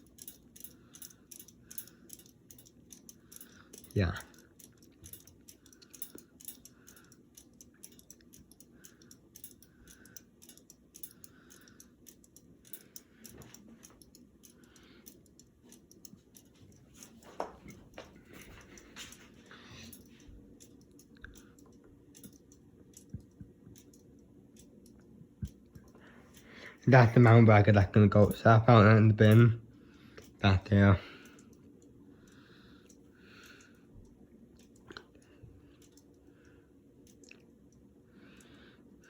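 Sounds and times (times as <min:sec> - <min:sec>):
ceiling fan clicks: 0:00.0 - 0:39.0
low steady hum: 0:00.0 - 0:39.0.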